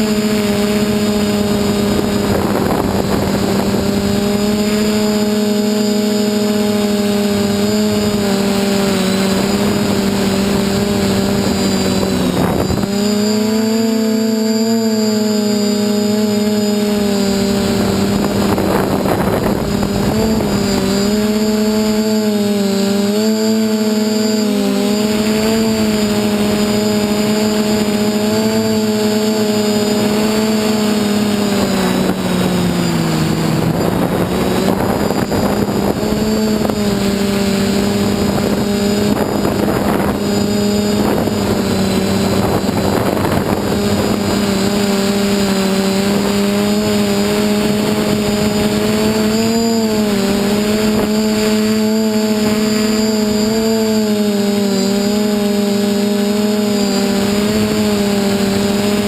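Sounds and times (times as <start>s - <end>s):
drone propellers buzzing: 0.0s - 59.0s
wind rushing over microphone: 0.0s - 59.0s.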